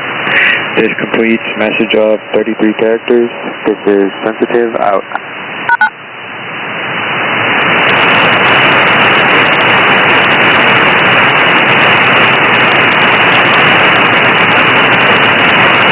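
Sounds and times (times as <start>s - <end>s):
radio static hiss: 0.0s - 5.9s, 7.5s - 15.9s.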